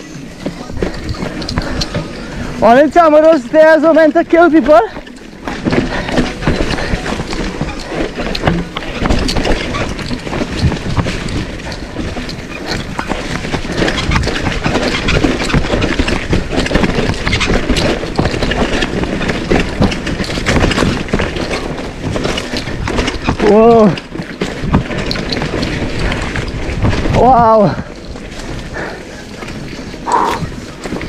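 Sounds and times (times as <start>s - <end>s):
bike knocks and rattles: 0.0s - 31.0s
bike tyres rumbling on dirt: 0.0s - 31.0s.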